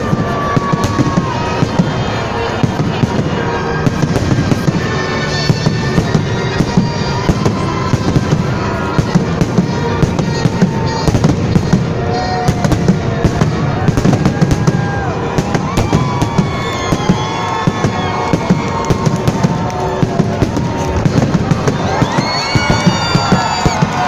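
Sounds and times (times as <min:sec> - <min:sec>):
fireworks barrage exploding: 0:00.0 - 0:24.0.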